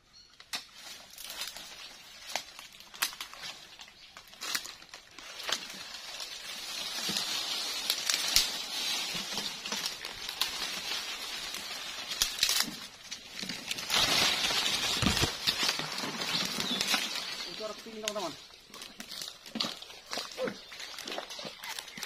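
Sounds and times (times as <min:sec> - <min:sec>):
leaves and branches rustling: 0:00.1 - 0:22.0
leaf litter crackling underfoot: 0:00.4 - 0:22.0
twigs snapping: 0:00.4 - 0:22.0.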